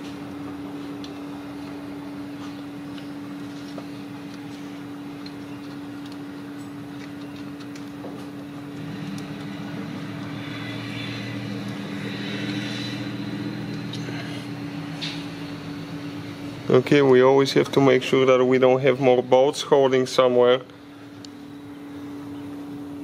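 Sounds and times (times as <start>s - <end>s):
engine drone with high whine: 0.0s - 23.0s
steady mechanical hum: 0.0s - 23.0s.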